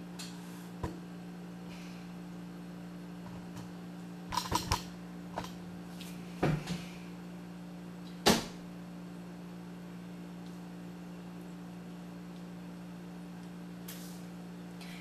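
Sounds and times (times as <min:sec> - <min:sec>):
refrigerator hum: 0:00.0 - 0:15.0.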